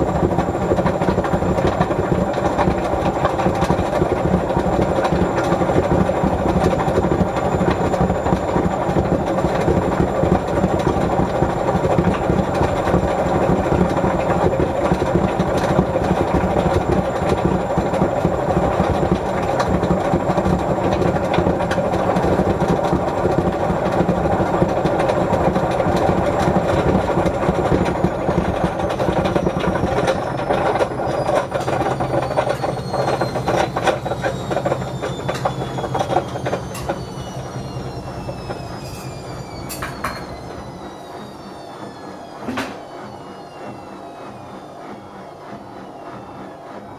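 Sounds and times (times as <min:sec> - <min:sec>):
high motor whine falling in pitch: 0:00.0 - 0:46.9
washing machine rumbling: 0:00.0 - 0:46.9.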